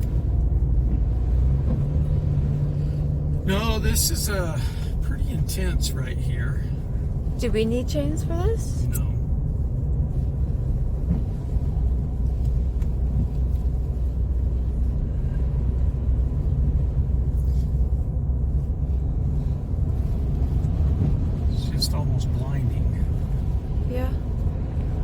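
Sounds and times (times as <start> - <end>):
car tyre and engine rumble: 0.0 - 25.0.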